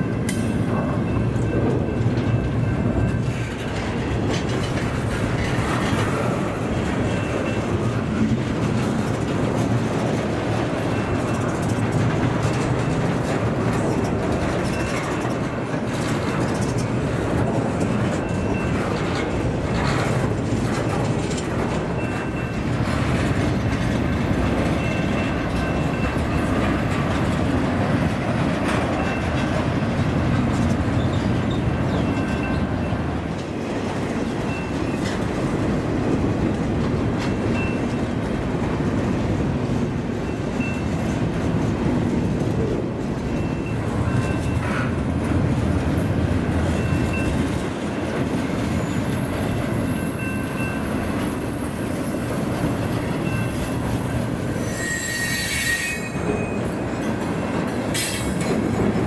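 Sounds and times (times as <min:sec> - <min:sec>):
freight train rumbling and rattling: 0:00.0 - 0:59.0.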